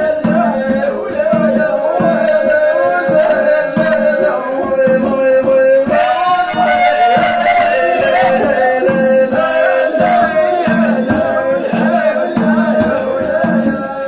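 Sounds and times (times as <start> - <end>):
hand drum strokes: 0.0 - 14.0
man singing long notes: 0.0 - 14.0.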